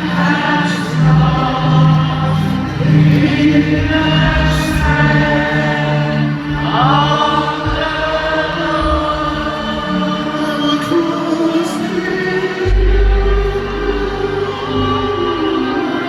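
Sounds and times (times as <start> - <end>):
choir singing held notes: 0.0 - 16.0
sustained low instrumental notes: 0.0 - 16.0.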